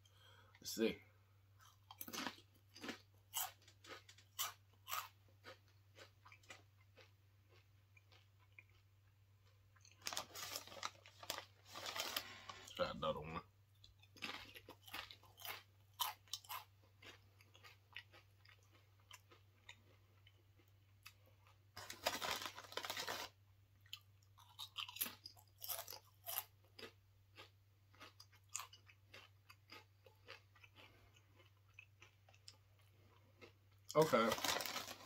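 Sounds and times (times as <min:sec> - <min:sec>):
person chewing crunchy chips: 0:01.6 - 0:35.0.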